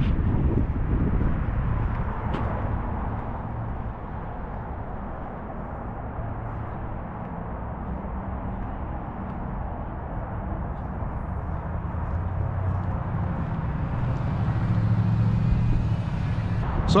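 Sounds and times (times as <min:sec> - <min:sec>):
road traffic drone: 0:00.0 - 0:17.0
vehicle passing: 0:00.0 - 0:17.0.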